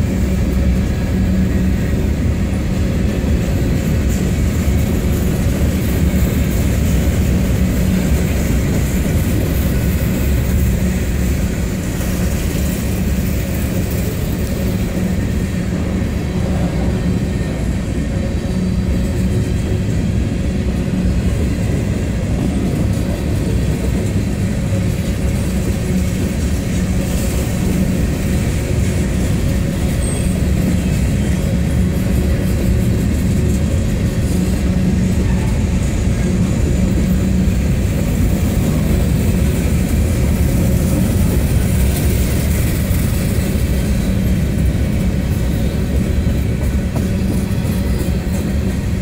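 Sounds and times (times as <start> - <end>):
steel wheels rumbling on rails: 0.0 - 49.0.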